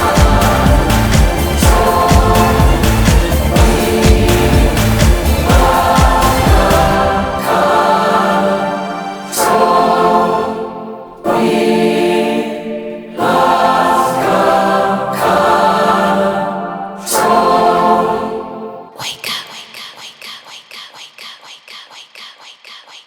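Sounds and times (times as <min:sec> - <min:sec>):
choir-like sustained chords: 0:00.0 - 0:19.0.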